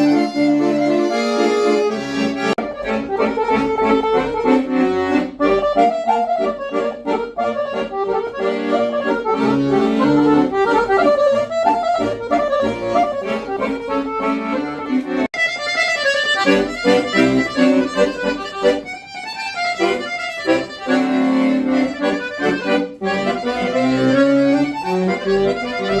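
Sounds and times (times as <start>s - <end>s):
piano accordion playing a tune: 0.0s - 26.0s.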